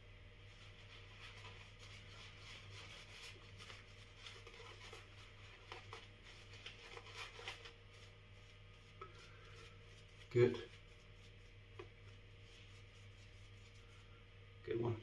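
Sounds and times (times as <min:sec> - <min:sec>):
shaving brush swishing: 0:00.5 - 0:14.1.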